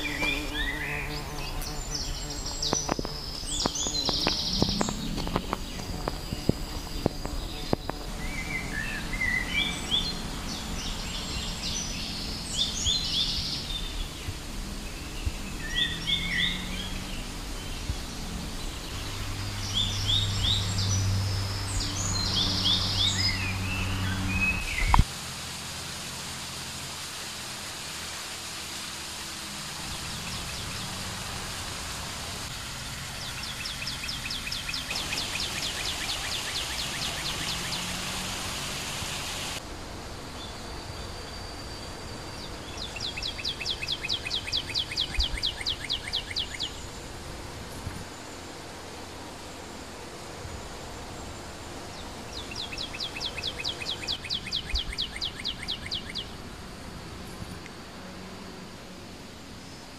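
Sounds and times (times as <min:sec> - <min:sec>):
songbirds chirping: 0:00.0 - 0:25.2, 0:26.2 - 0:59.9
steady hiss: 0:00.0 - 0:59.9.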